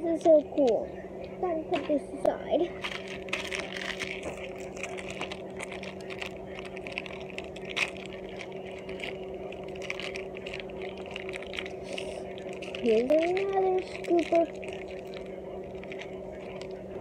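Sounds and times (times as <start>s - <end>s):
steady low hum: 0.0s - 17.0s
foil and plastic packaging rustling: 2.6s - 17.0s.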